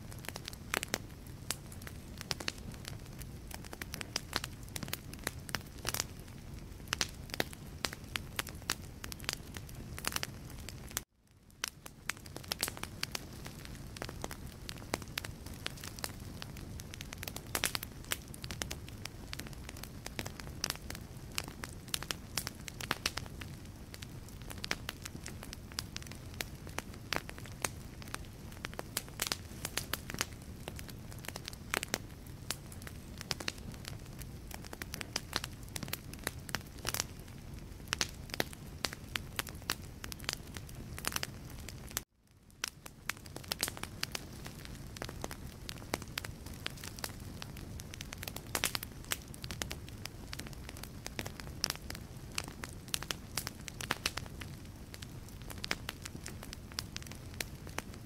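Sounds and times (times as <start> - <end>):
logs crackling and popping: 0.0 - 58.0
low rumble of flame: 0.0 - 58.0.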